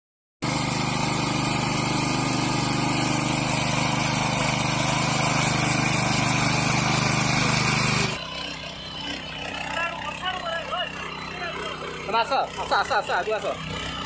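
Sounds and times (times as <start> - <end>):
small petrol engine running: 0.4 - 14.0
tines churning through mud: 0.4 - 14.0.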